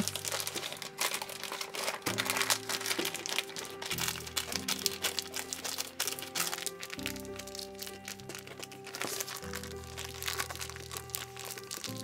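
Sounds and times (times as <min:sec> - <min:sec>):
plastic bag crinkling: 0:00.0 - 0:12.0
soft background music: 0:00.0 - 0:12.0.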